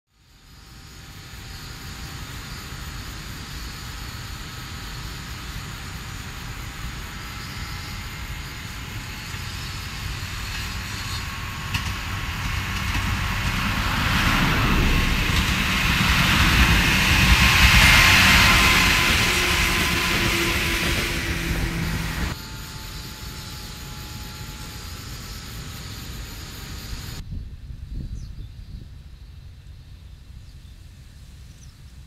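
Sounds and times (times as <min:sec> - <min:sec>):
electric train running: 0:00.4 - 0:27.2.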